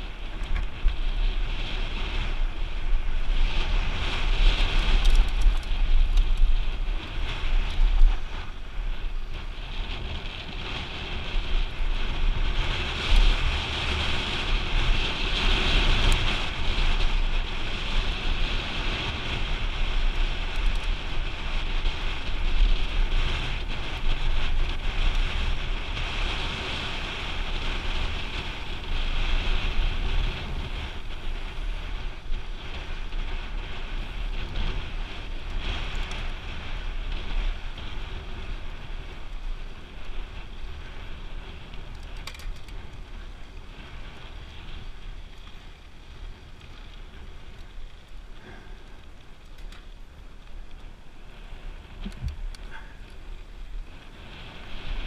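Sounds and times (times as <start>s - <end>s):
tyres rolling on dirt trail: 0.0s - 55.0s
wind buffeting microphone: 0.0s - 55.0s.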